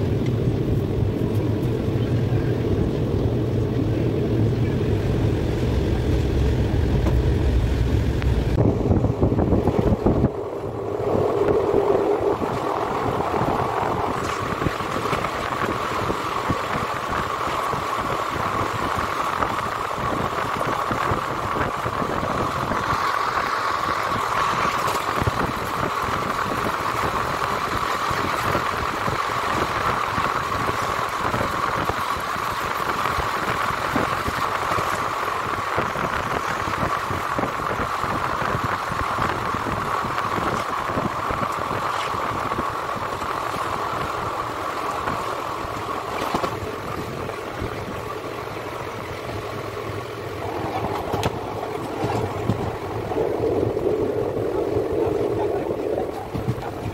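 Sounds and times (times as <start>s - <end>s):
rushing air: 0.0s - 56.9s
train wheels on rails: 0.0s - 56.9s.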